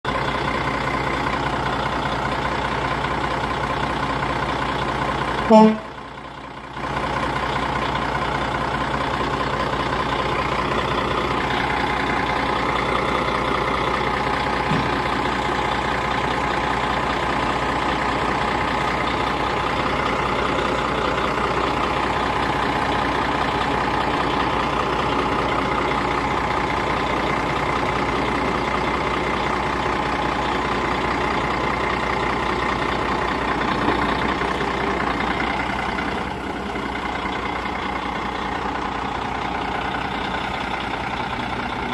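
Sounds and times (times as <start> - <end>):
diesel truck engine idling: 0.0 - 41.9
high engine whine: 0.1 - 41.9.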